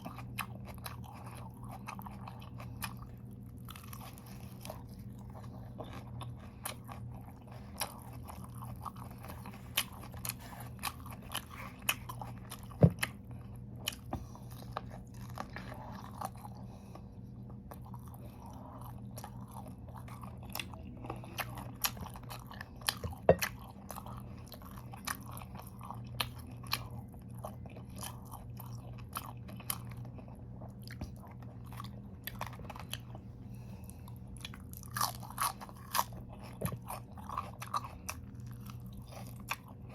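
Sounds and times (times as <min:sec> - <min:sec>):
person chewing crunchy vegetables: 0:00.0 - 0:39.9
steady low hum: 0:00.0 - 0:39.9.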